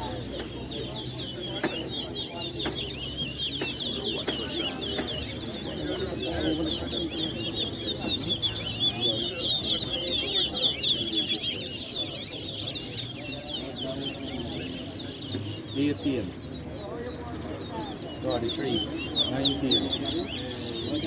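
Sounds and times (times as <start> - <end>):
finch singing rapid chirps: 0.0 - 21.0.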